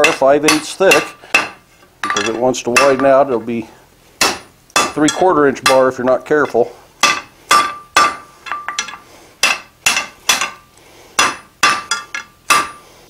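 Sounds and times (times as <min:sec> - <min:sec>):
hammer striking iron on anvil: 0:00.0 - 0:03.4, 0:04.2 - 0:10.6, 0:11.2 - 0:12.8.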